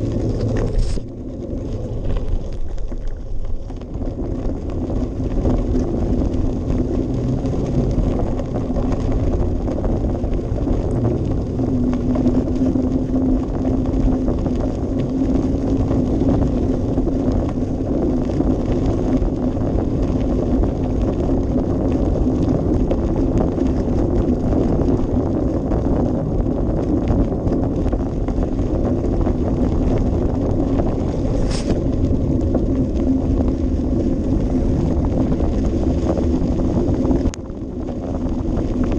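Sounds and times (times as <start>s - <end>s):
bicycle tyres rolling: 0.0s - 38.9s
low hum: 0.0s - 38.9s
wind on microphone: 0.0s - 38.9s.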